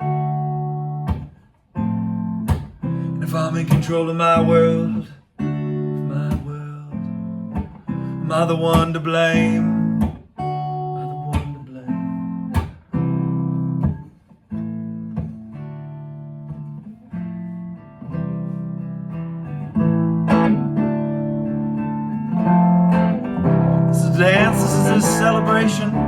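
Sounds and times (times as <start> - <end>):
guitar chords strummed: 0.0 - 26.0.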